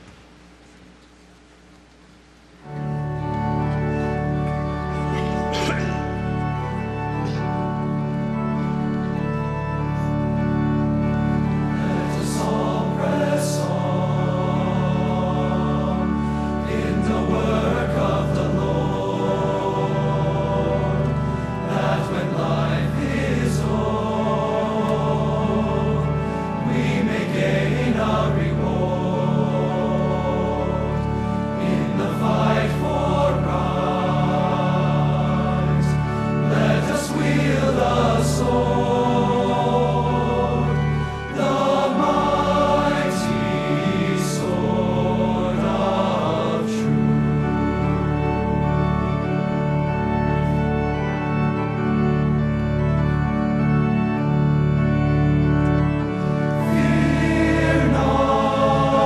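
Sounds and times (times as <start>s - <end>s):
organ holding low notes: 0.0s - 59.0s
choir singing a hymn: 2.7s - 59.0s.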